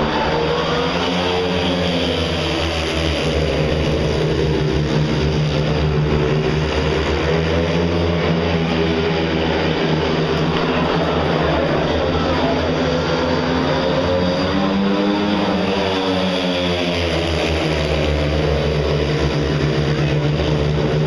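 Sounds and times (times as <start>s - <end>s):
motorcycle engines racing: 0.0s - 21.0s.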